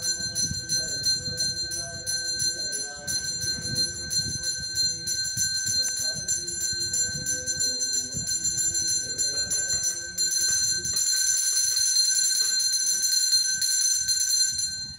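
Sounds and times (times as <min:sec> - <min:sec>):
temple bell ringing rapidly: 0:00.0 - 0:14.9.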